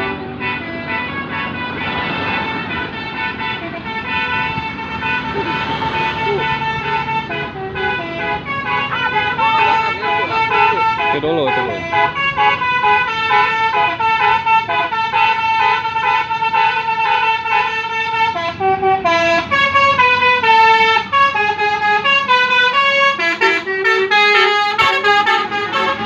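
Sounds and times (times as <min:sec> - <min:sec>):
multi-tone musical air horn: 0:00.0 - 0:26.0.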